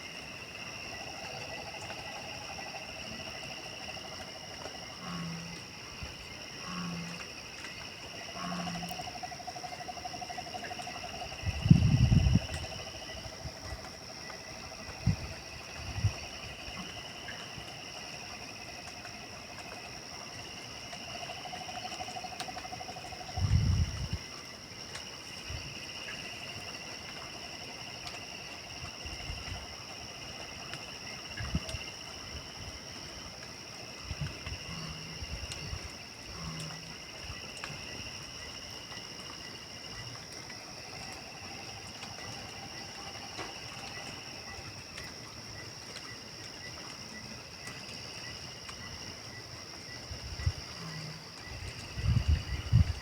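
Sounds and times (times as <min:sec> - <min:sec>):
pulsing frog chorus: 0:00.0 - 0:24.1, 0:34.0 - 0:53.0
high insect trill: 0:00.0 - 0:53.0.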